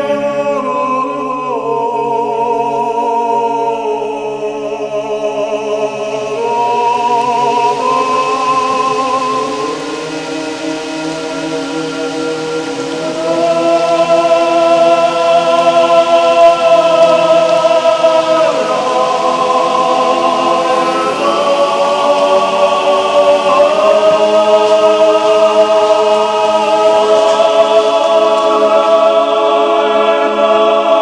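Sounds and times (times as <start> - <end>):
choir-like voices holding chords: 0.0 - 31.0.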